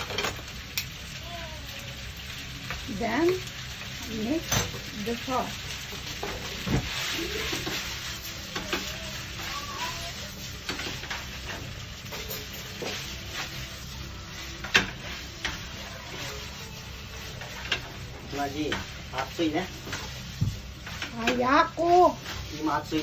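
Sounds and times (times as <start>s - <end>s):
spaghetti sizzling in a pan: 0.0s - 23.0s.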